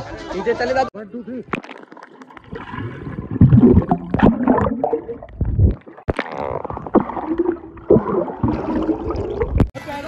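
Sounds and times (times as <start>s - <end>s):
pool water splashing and gurgling: 1.4s - 9.8s.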